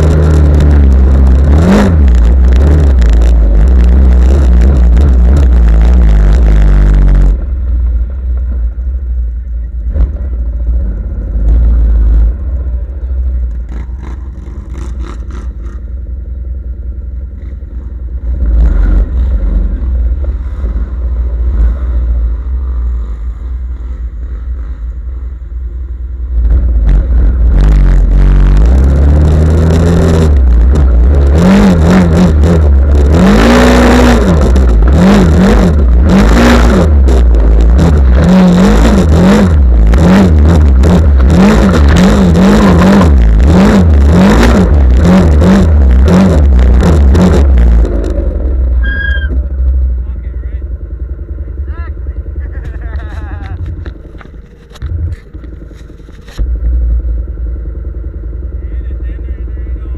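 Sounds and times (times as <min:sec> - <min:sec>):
clatter: 0:00.0 - 0:59.9
off-road vehicle engine revving: 0:00.0 - 0:59.9.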